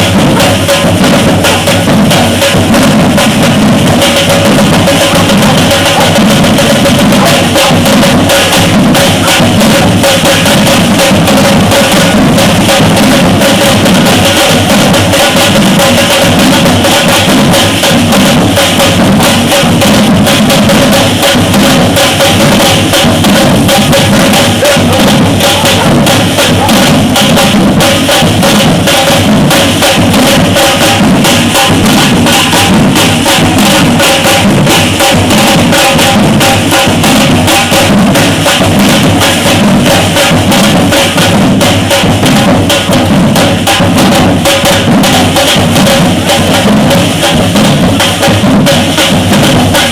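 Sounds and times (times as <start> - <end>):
drum ensemble playing fast groove: 0.0 - 49.9.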